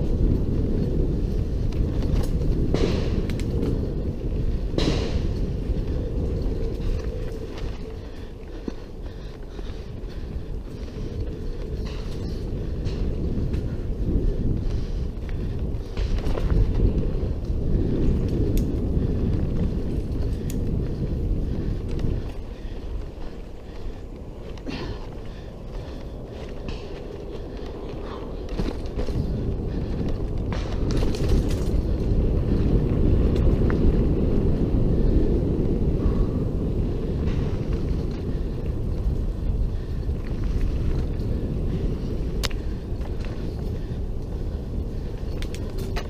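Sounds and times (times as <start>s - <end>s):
bike rumbling on dirt trail: 0.0s - 46.0s
wind buffeting microphone: 0.0s - 46.0s.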